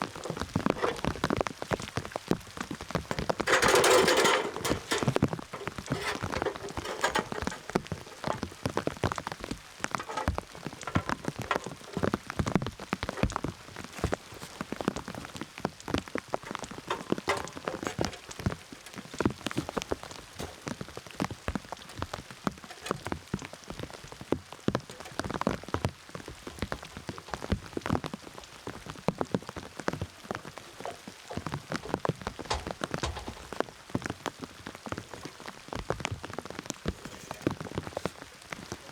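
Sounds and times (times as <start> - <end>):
rain drops pattering on a surface: 0.0 - 3.6, 5.1 - 38.9.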